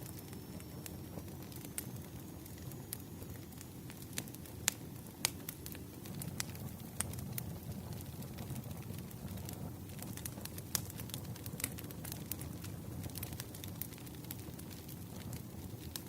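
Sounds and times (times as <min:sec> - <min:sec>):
fire crackles and pops: 0:00.0 - 0:16.0
fire low rumble: 0:00.0 - 0:16.0.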